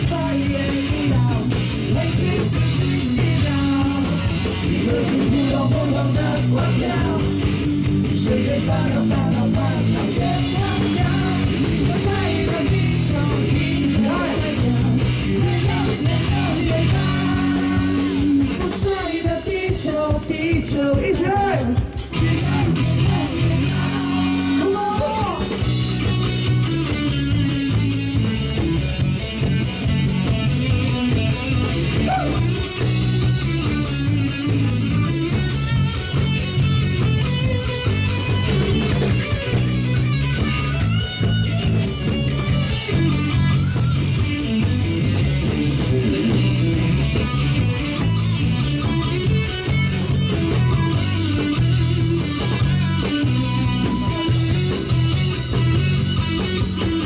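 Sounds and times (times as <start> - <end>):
bass: 0.0 - 57.0
drum-kit beat: 0.0 - 57.0
electric guitar: 0.0 - 57.0.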